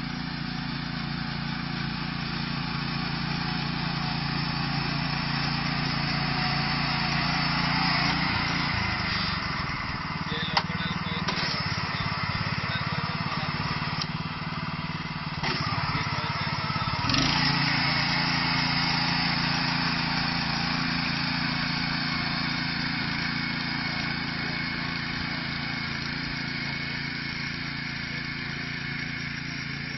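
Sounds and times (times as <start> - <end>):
small engine running: 0.0 - 29.9.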